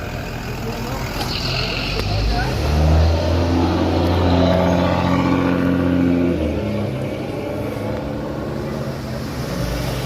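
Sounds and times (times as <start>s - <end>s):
diesel bus engine running: 0.0s - 10.0s.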